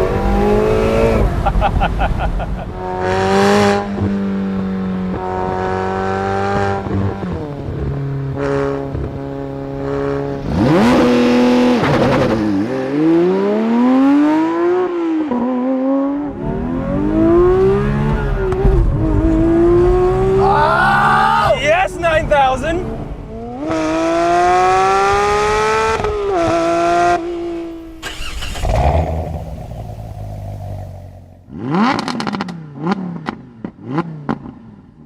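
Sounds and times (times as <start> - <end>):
car engine revving: 0.0 - 20.7, 22.8 - 34.8.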